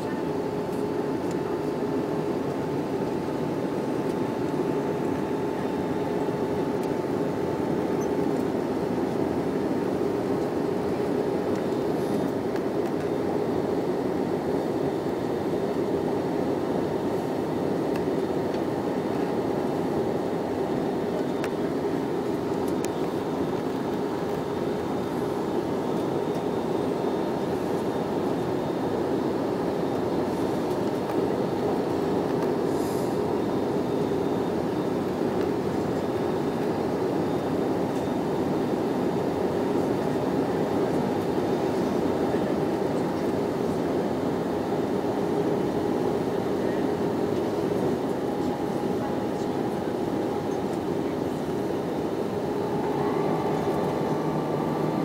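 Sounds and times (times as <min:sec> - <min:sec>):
faint steady whine: 0:00.0 - 0:55.0
jet engines droning: 0:00.0 - 0:55.0.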